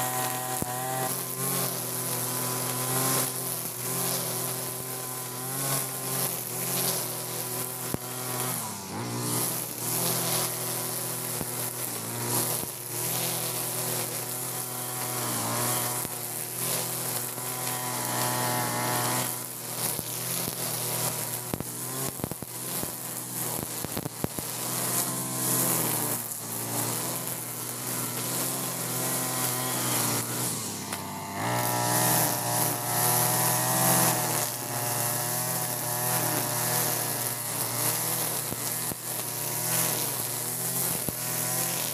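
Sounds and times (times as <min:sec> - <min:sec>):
brush cutter cutting grass: 0:00.0 - 0:41.9.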